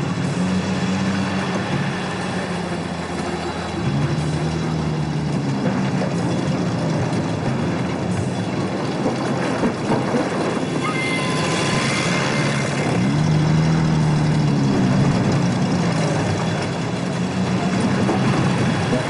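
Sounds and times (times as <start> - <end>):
heavy trucks driving past: 0.0 - 19.0.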